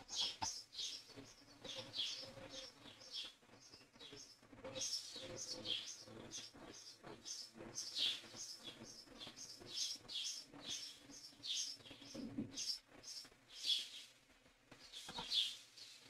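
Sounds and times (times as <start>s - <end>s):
bird chirping: 0.0s - 14.1s, 14.8s - 16.0s.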